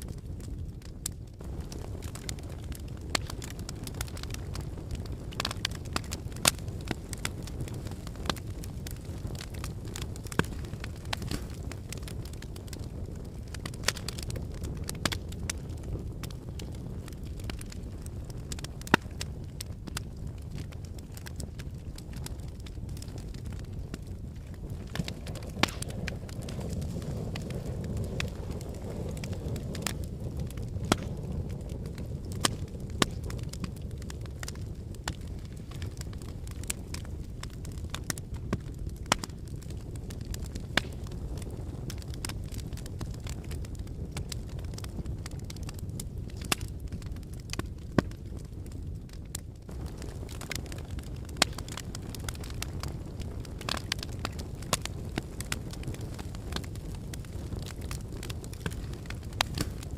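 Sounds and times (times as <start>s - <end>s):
fire rumbling in a fireplace: 0.0s - 59.9s
wood crackling and popping: 0.0s - 59.9s.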